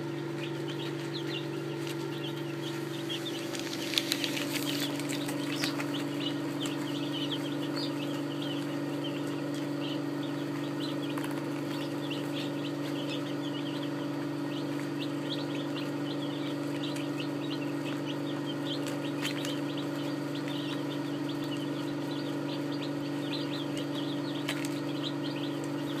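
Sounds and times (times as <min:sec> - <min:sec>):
chicks peeping: 0:00.0 - 0:26.0
steady low hum: 0:00.0 - 0:26.0.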